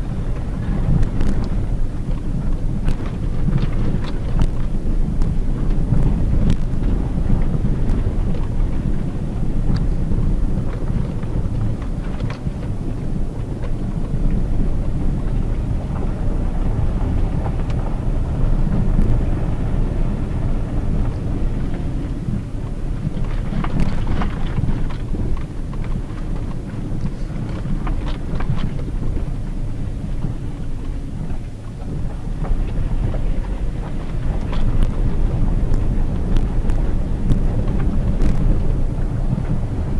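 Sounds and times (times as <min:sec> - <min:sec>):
engine and tyres rumbling: 0:00.0 - 0:39.9.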